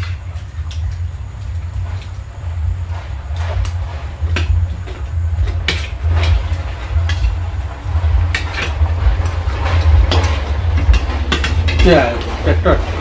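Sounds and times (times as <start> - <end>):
diesel engine chugging: 2.2 - 13.0.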